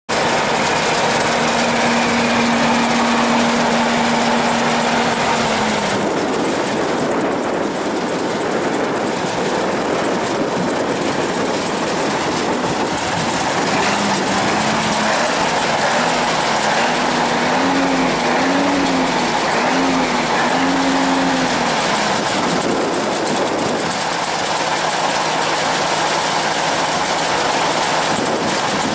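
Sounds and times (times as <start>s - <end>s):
diesel tractor engines running: 0.1s - 28.9s.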